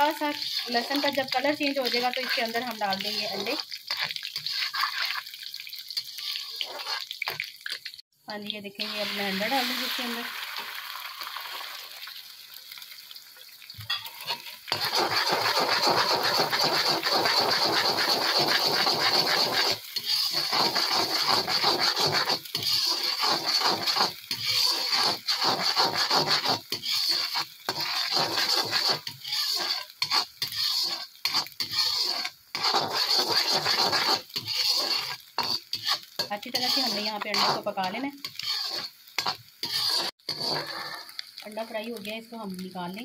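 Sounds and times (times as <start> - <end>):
spatula scraping against iron pan: 0.0 - 7.2, 13.9 - 41.5
eggs sizzling in hot oil: 0.0 - 43.0.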